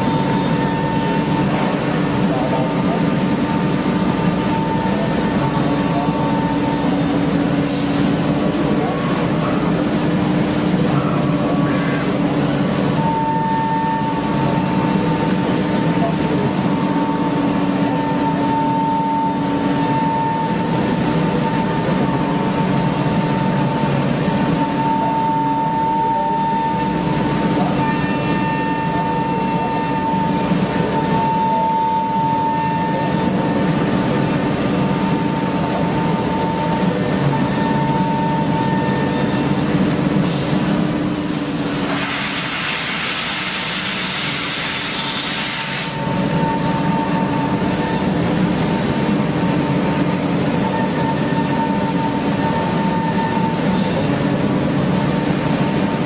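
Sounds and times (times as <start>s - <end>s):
machine high whine: 0.0s - 56.0s
mechanical hum: 0.0s - 56.0s.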